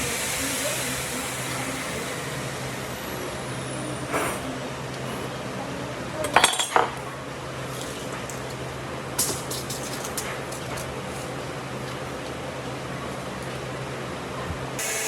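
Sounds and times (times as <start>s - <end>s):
workshop hum and hiss: 0.0s - 15.0s.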